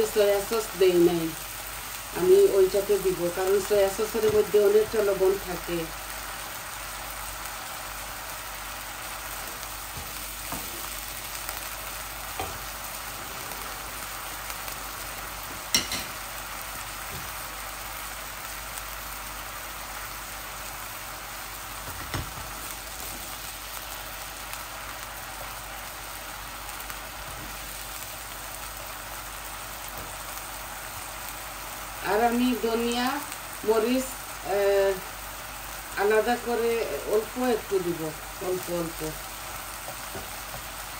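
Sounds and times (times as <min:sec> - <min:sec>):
chicken sizzling in a wok: 0:00.0 - 0:40.9.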